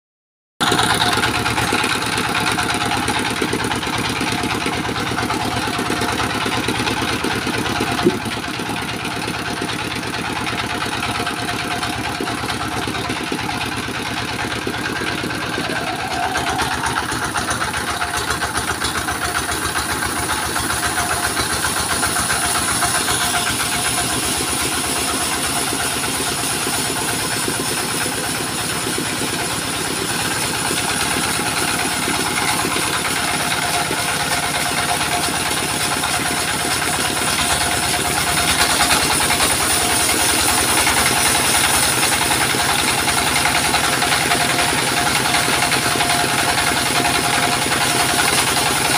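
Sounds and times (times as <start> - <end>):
diesel engine running: 0.6 - 48.9.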